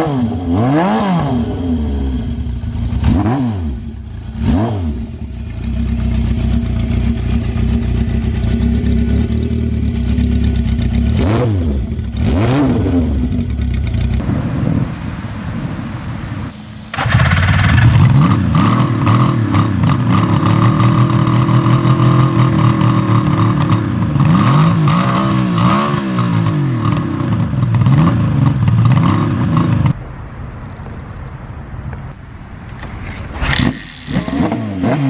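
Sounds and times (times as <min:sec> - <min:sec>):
motorcycle engine revving: 0:00.0 - 0:32.2.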